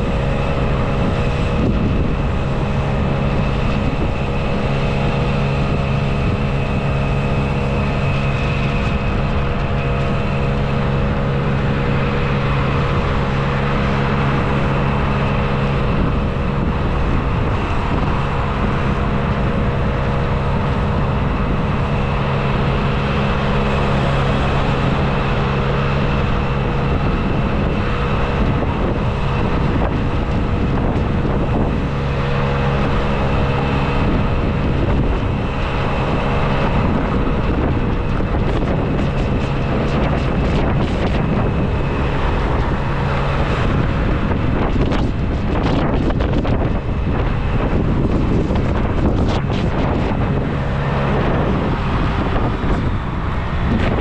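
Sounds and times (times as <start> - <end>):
city traffic: 0.0 - 45.6, 46.6 - 54.0
steady low hum: 0.0 - 54.0
wind buffeting microphone: 0.0 - 54.0.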